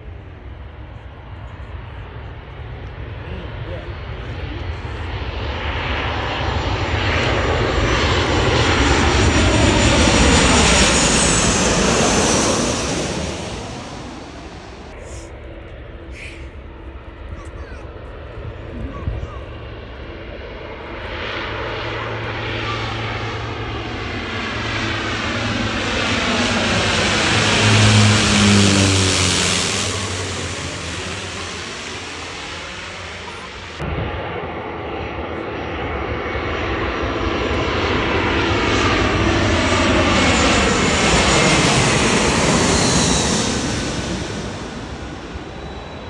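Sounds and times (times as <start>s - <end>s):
jet airliner engine roar: 0.0s - 46.0s.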